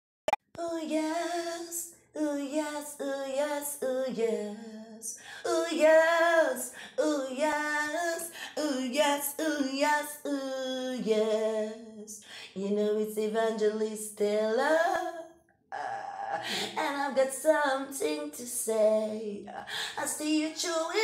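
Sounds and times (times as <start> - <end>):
woman singing: 0.6 - 21.0.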